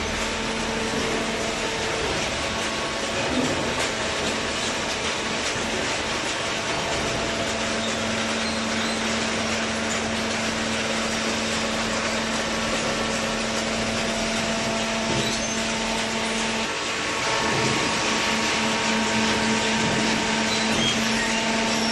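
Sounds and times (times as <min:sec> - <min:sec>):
baling machinery whirring: 0:00.0 - 0:21.9.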